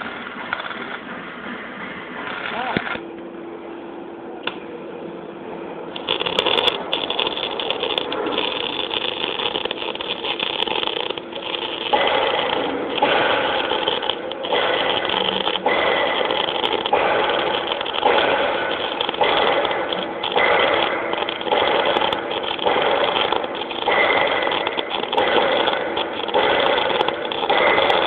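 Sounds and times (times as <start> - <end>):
welding arc crackling and sizzling: 0.0 - 2.9, 5.9 - 28.0.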